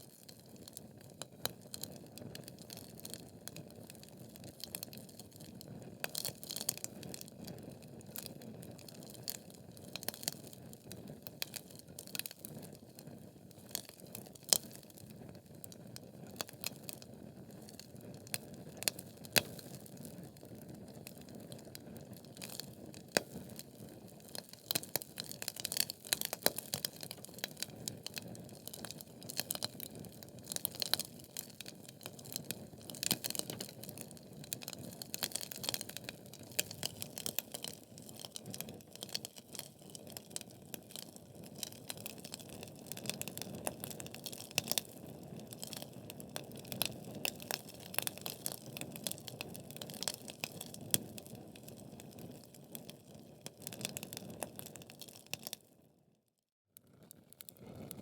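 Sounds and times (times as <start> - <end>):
wood crackling and popping: 0.1 - 55.6.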